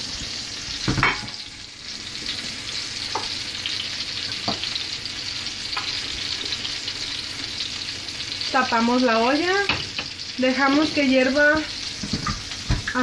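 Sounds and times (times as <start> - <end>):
broth simmering hiss: 0.0 - 13.0.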